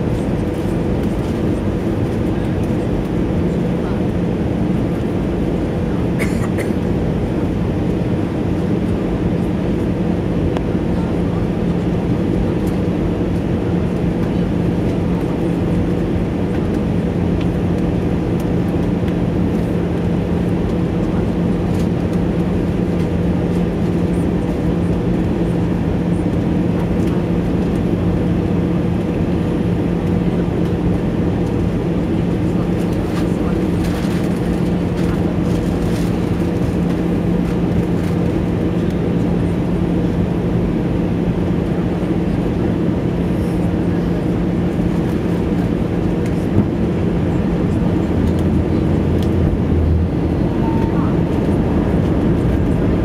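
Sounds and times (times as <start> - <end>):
constant low hum: 0.0 - 53.0
jet engine drone: 0.0 - 53.0.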